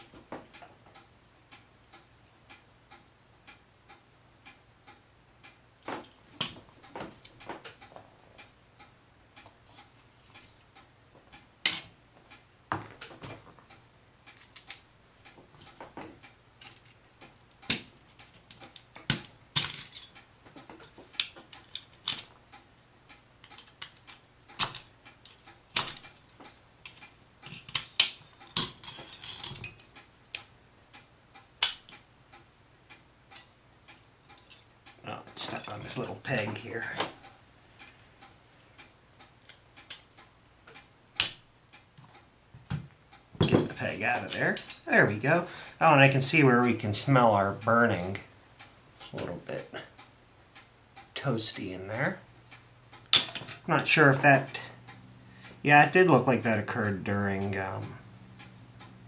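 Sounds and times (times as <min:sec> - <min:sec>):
faint steady ticking: 0:00.0 - 0:59.0.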